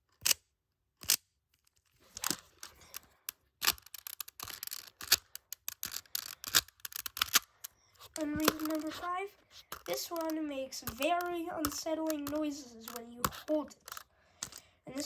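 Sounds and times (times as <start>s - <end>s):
puzzle cube clicking: 0.0s - 14.7s.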